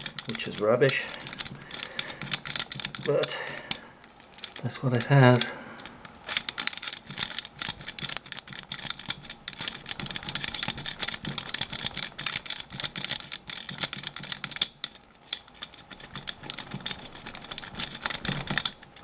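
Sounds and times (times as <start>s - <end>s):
key clicking and rattling in lock: 0.0s - 19.0s.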